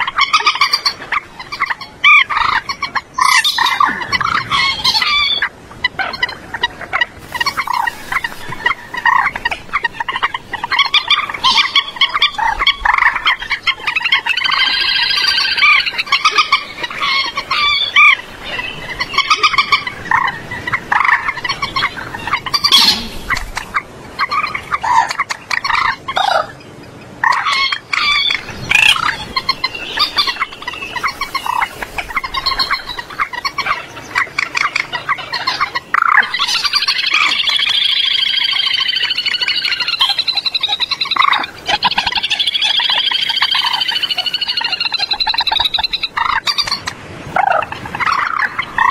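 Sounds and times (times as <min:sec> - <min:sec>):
drawn-out moorhen calls: 0:00.0 - 0:48.9
moorhens clucking: 0:00.0 - 0:48.9.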